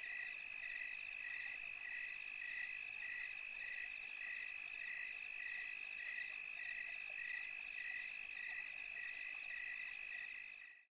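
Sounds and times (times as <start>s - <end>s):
insects and frogs calling: 0.0s - 10.9s.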